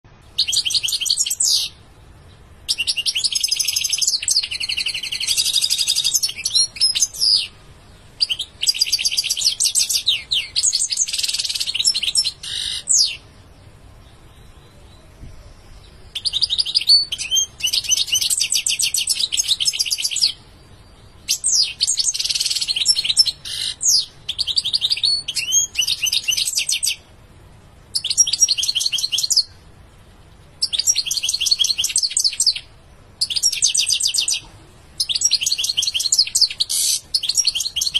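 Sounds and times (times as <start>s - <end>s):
bird twittering song: 0.1s - 27.2s, 27.9s - 37.9s.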